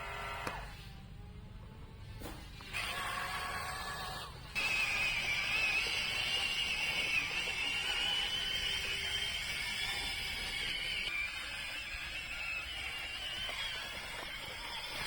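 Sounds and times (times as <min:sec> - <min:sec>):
small electric motor whine: 0:00.0 - 0:15.0.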